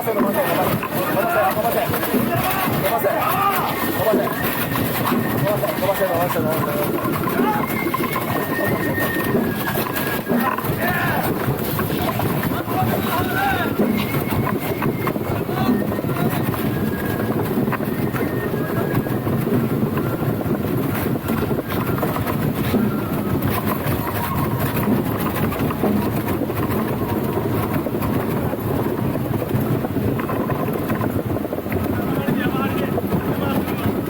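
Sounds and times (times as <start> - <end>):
wheels rumbling on road: 0.0 - 34.0.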